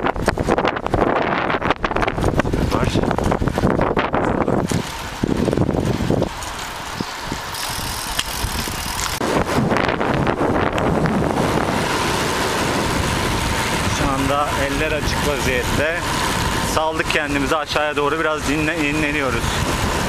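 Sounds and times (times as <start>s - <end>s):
bicycle road noise: 0.0s - 20.0s
rushing wind: 0.0s - 20.0s.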